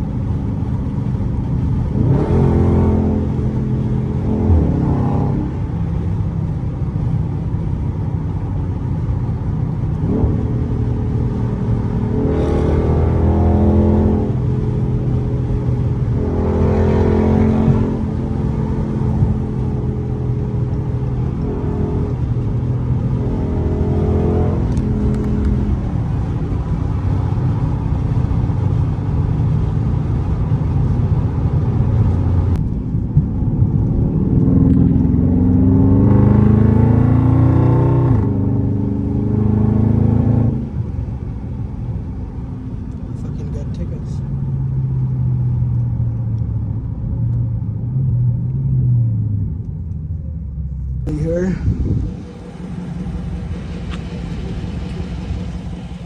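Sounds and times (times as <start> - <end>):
car engine droning at speed: 0.0 - 56.0.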